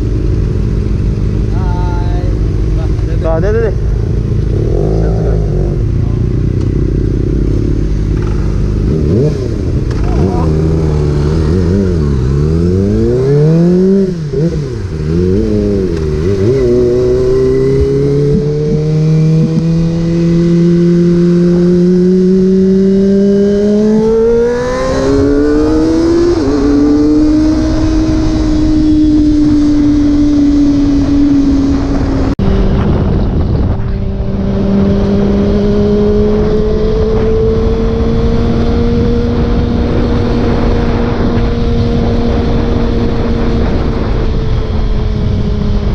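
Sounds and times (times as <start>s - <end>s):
motorcycle engine: 0.0s - 45.9s
rushing wind noise: 0.0s - 45.9s.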